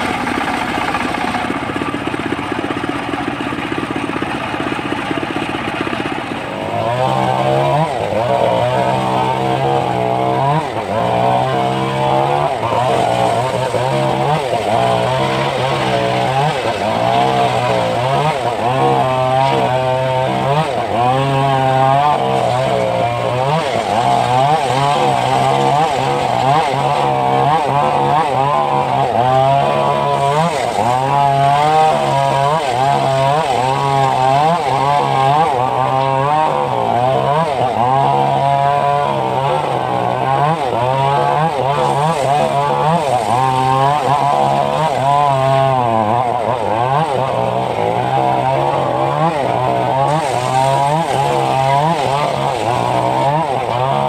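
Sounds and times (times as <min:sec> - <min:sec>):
sawmill blade ripping a log: 0:00.0 - 0:54.0.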